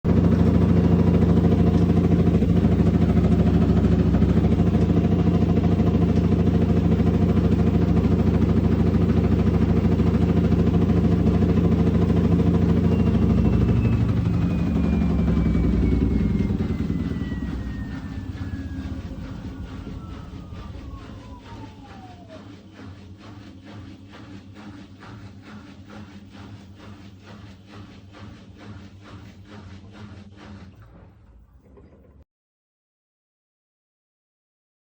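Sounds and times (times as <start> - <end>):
drum motor whine: 0.1 - 32.2
washing machine spinning: 0.1 - 32.2.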